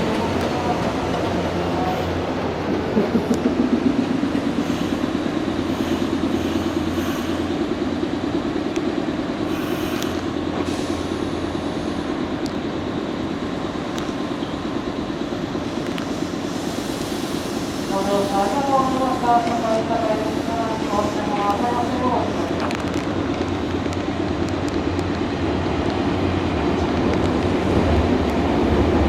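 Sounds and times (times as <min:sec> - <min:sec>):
electric train rolling on track: 0:00.0 - 0:29.0.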